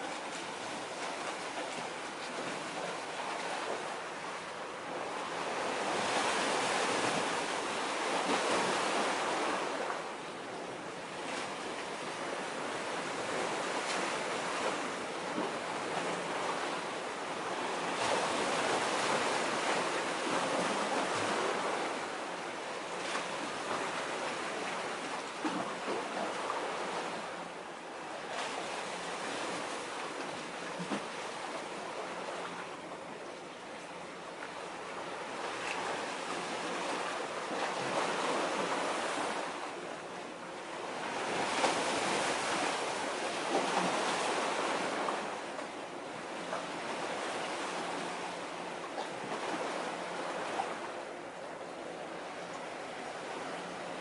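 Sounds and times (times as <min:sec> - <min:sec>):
small waves washing on concrete: 0:00.0 - 0:33.1, 0:33.8 - 0:54.0.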